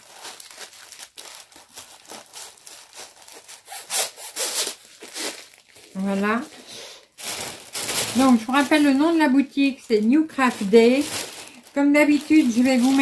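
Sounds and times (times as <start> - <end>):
packaging rustling and scraping: 0.0 - 13.0.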